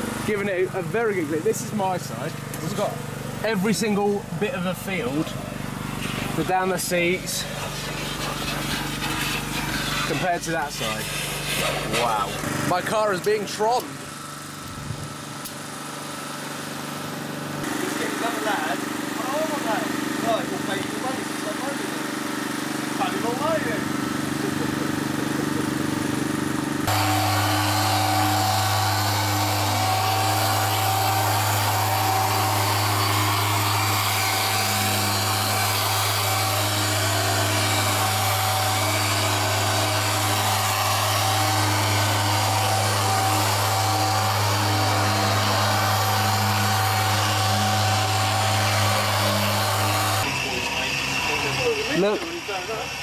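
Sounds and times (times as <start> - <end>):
machine polisher humming and whining: 0.0 - 14.2, 15.4 - 53.0
motor hum: 0.0 - 53.0.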